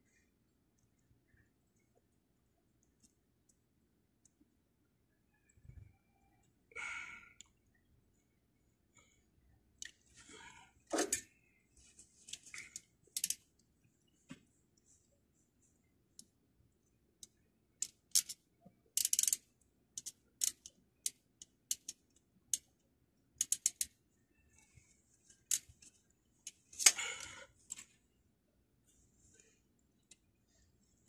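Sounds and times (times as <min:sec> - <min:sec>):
soft rustling of cable: 0:00.0 - 0:04.6, 0:07.4 - 0:31.0.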